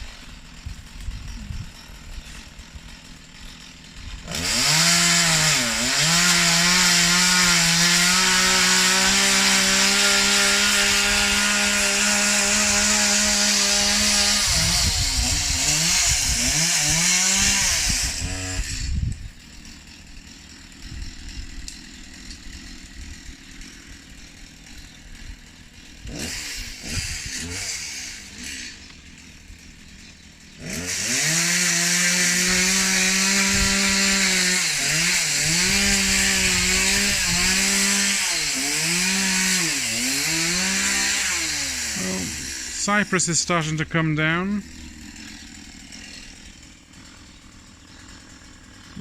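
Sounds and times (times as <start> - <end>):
chainsaw revving: 0.0 - 49.0.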